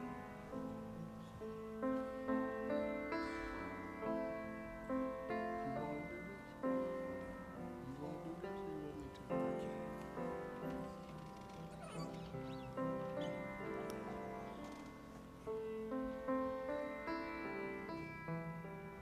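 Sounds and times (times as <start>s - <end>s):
keyboard playing slow chords: 0.0s - 19.0s.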